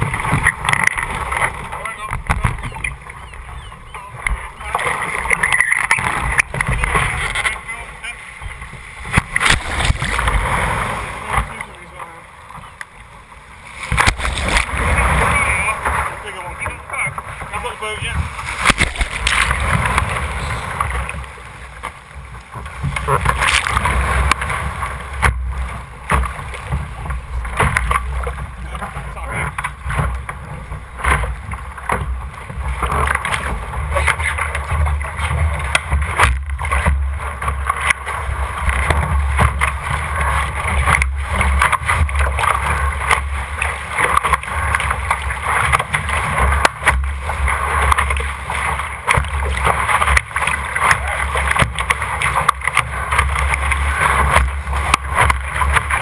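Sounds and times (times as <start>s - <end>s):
wind rumbling on microphone: 0.0s - 11.7s, 13.6s - 56.0s
water rushing along hull: 0.0s - 56.0s
waves knocking against hull: 0.0s - 56.0s.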